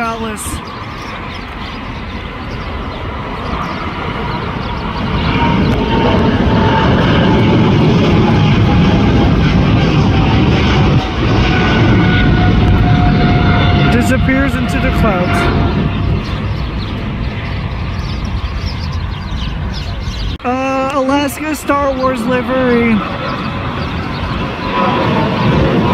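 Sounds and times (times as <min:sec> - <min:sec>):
jet aircraft taking off: 0:00.0 - 0:25.9.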